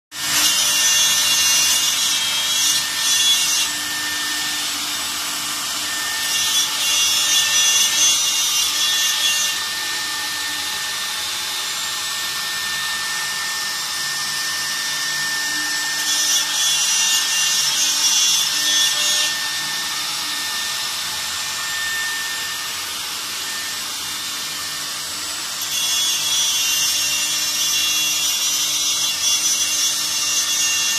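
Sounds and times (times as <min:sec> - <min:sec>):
wood router whining: 0:00.2 - 0:30.9.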